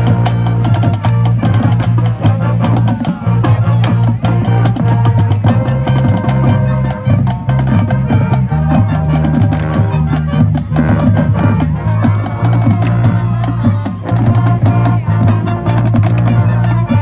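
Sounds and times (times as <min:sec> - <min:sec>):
busy drum beat: 0:00.0 - 0:17.0
marching band playing: 0:00.0 - 0:17.0.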